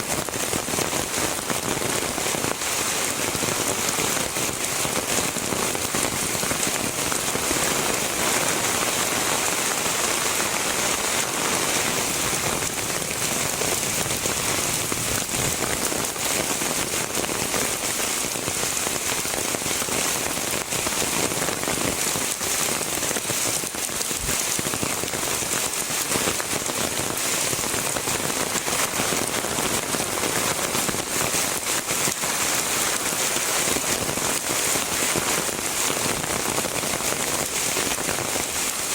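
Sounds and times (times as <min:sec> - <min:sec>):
heavy rain falling: 0:00.0 - 0:38.9
raindrops pattering on hard surfaces: 0:00.0 - 0:38.9.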